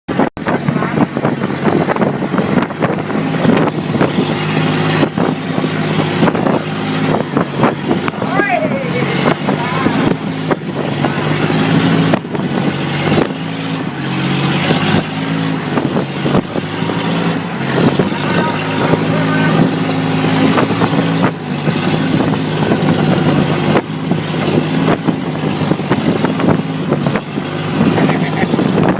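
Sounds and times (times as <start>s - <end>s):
boat engine running: 0.1s - 28.9s
water noise: 0.1s - 28.9s
wind: 0.1s - 28.9s.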